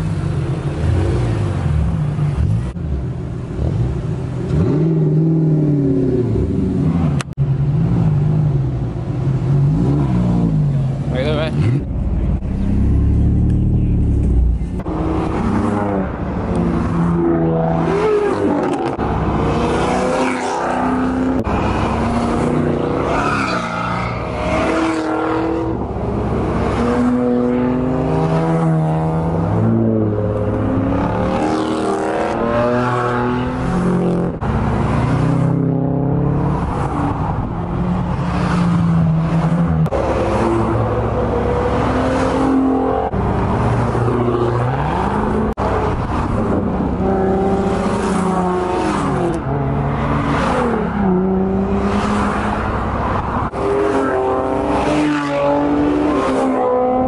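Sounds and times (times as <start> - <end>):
car engines and exhausts accelerating: 0.0 - 57.0
wind and road rush: 0.0 - 57.0.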